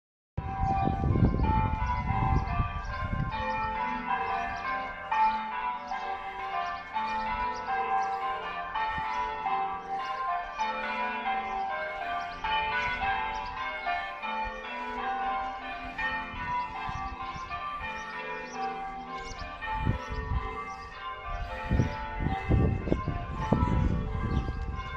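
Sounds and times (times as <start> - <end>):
church bells ringing: 0.4 - 24.9.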